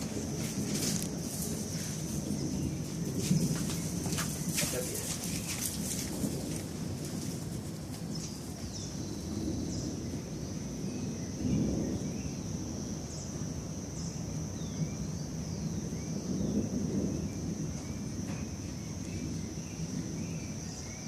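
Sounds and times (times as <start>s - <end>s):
distant thunder rumble: 0.0s - 21.0s.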